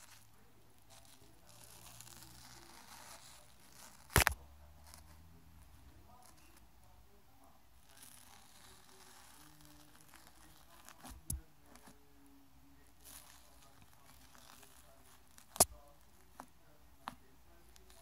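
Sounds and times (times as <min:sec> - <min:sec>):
faint crinkling: 0:00.0 - 0:18.0.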